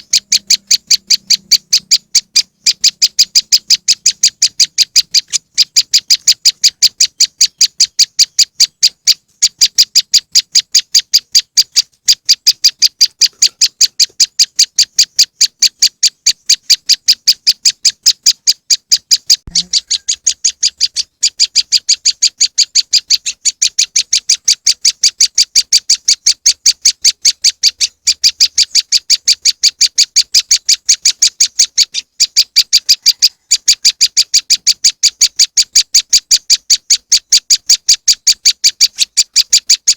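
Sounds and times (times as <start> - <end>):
fast high bird chirps: 0.0 - 39.9.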